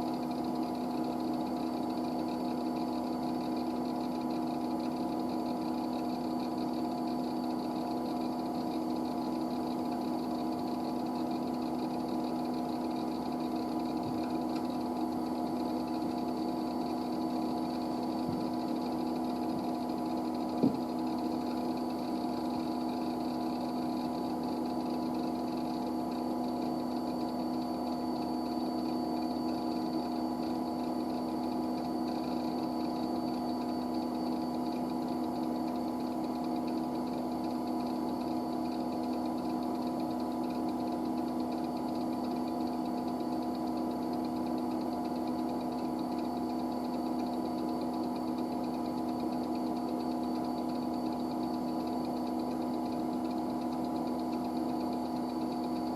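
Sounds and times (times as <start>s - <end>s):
machine mechanical hum: 0.0s - 55.9s.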